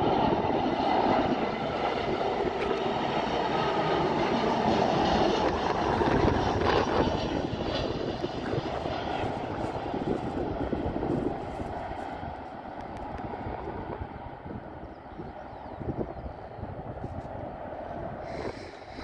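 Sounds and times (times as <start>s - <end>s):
jet engines of landing airliner: 0.0s - 19.0s.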